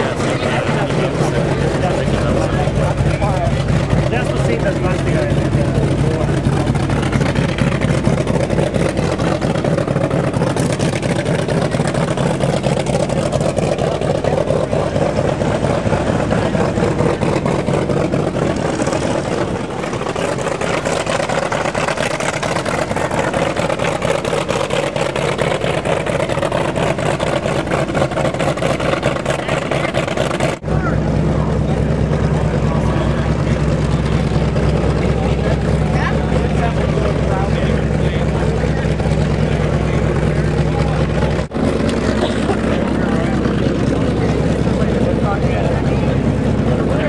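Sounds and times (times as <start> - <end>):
piston engine idling: 0.0 - 47.0.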